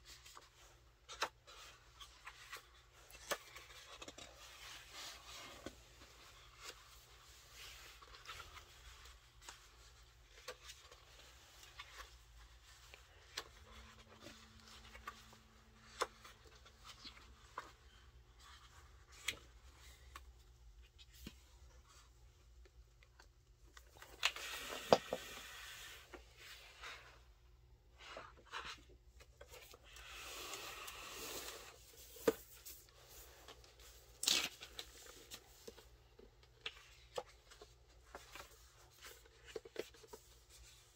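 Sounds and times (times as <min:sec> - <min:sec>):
pages turning rustling: 0:00.1 - 0:27.3, 0:28.0 - 0:40.9.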